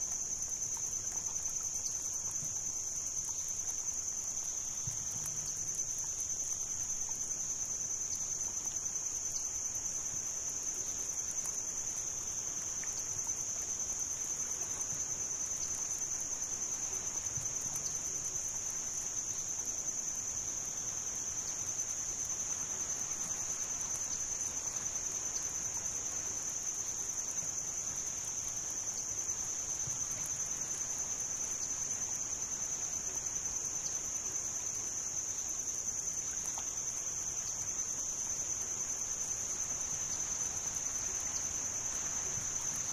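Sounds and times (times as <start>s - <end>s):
insect chorus trilling: 0.0s - 42.9s.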